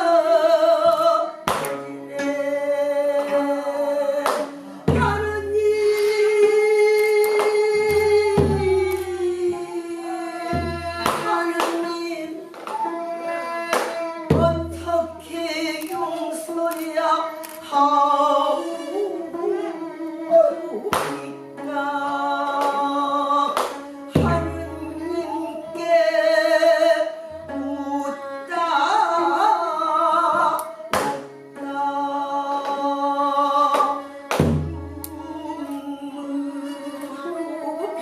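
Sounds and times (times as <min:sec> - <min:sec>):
person singing long wavering notes: 0:02.1 - 0:34.3, 0:34.9 - 0:38.0.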